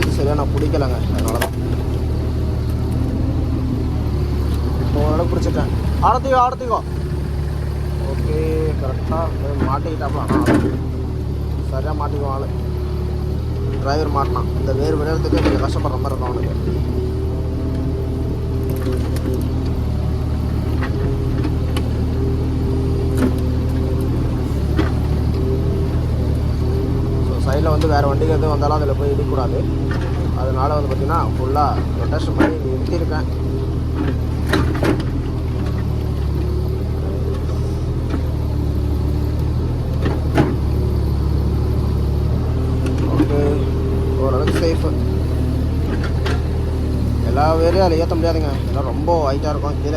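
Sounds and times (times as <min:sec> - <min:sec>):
excavator diesel engine: 0:00.0 - 0:49.9
hydraulic whine: 0:00.0 - 0:49.9.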